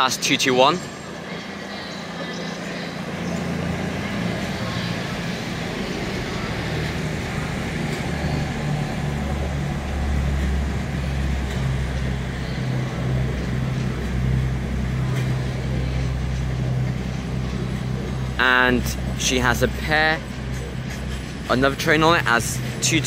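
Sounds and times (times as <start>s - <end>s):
train diesel engines humming: 0.0s - 23.0s.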